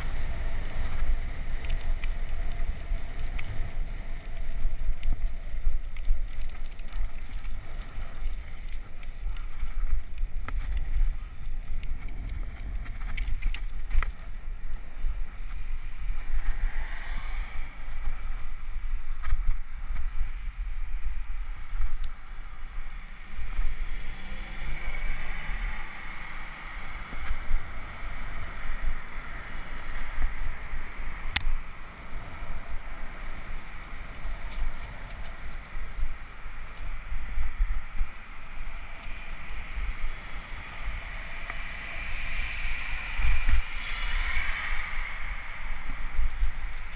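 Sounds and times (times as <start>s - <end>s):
wind buffeting microphone: 0.0s - 46.9s
bicycle tyres hissing on wet pavement: 5.2s - 11.8s, 14.8s - 46.9s.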